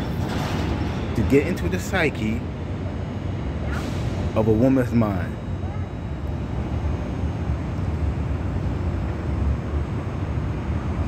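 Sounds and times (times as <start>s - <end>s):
low rumble of city noise: 0.0s - 11.0s.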